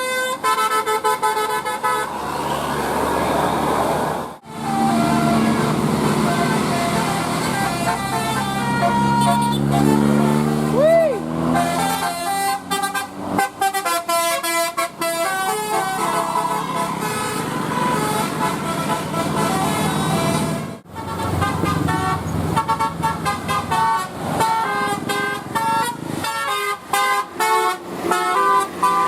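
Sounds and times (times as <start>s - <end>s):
multi-tone bus air horns: 0.0s - 3.8s, 4.4s - 29.0s.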